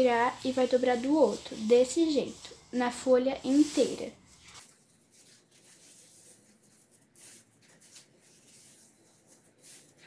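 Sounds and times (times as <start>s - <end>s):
paper towel rustling: 0.0s - 10.0s.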